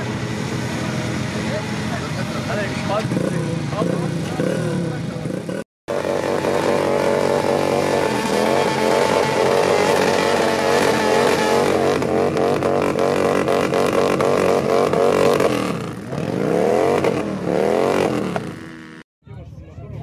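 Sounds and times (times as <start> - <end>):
motorcycle engine revving hard: 0.8 - 19.0.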